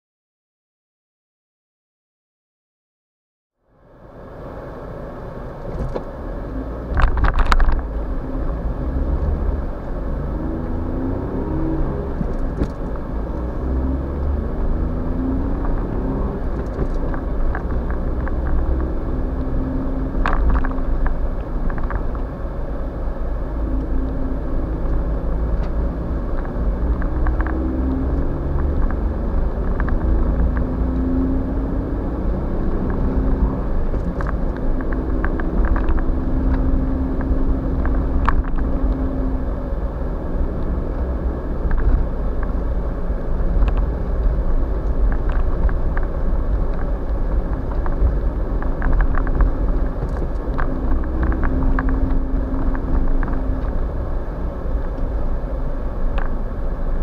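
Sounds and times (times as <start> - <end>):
van engine and tyres rumbling: 3.6 - 57.0.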